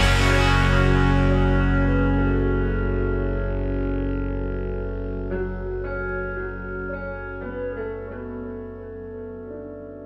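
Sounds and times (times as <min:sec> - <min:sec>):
steady low bass: 0:00.0 - 0:10.0.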